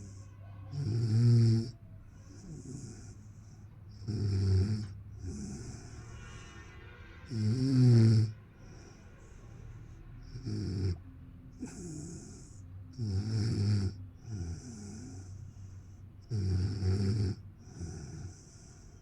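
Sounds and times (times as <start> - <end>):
hissing breaths: 0.0 - 16.5, 17.3 - 19.0
low buzzing snores: 0.0 - 19.0.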